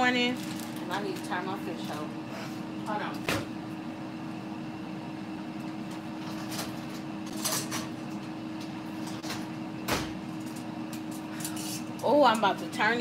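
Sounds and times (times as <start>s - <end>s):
air fryer fan humming: 0.0s - 13.0s.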